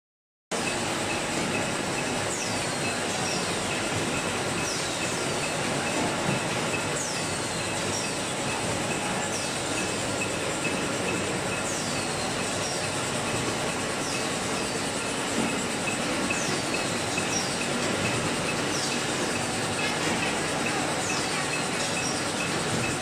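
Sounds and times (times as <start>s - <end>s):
machine mechanical din: 0.5s - 23.0s.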